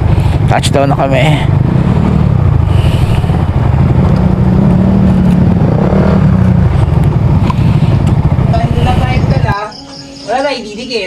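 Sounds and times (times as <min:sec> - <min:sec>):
motorcycle engine idling: 0:00.0 - 0:10.3.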